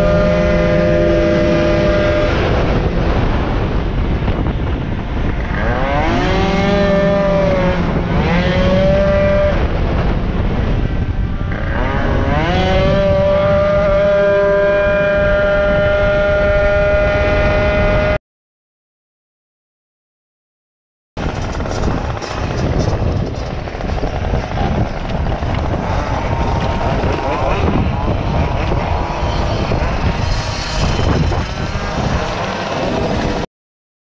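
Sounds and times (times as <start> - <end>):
moped engine revving: 0.0 - 4.2, 5.3 - 18.2, 21.2 - 33.5
wind rush: 0.0 - 18.2, 21.2 - 33.5.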